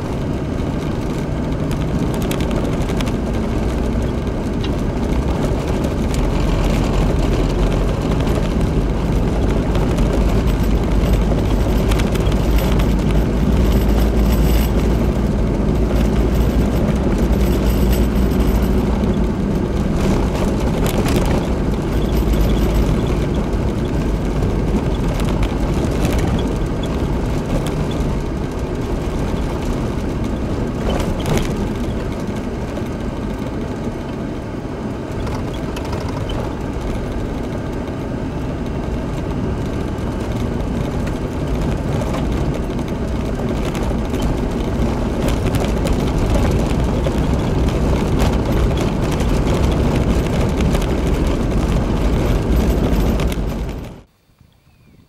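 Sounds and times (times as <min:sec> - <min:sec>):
vehicle engine: 0:00.0 - 0:54.2.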